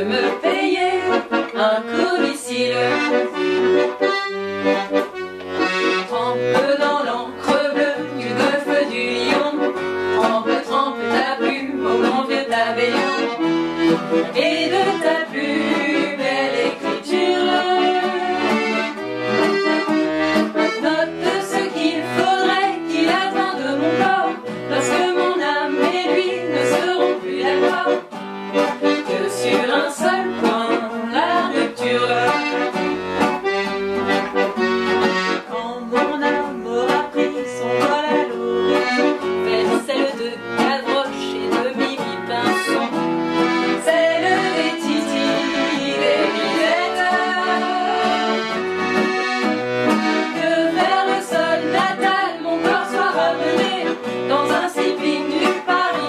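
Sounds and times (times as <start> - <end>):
accordion melody: 0.0 - 56.0
nylon-string guitar strumming: 0.0 - 56.0.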